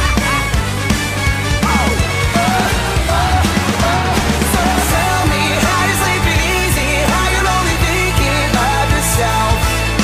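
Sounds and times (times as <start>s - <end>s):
rock music: 0.0s - 10.0s
steady drum beat: 0.0s - 10.0s.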